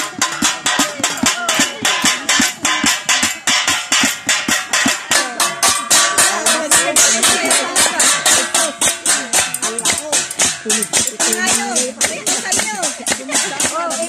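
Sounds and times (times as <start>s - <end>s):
pans and plates clanging in a beat: 0.0s - 14.0s
voices calling out: 0.0s - 14.0s.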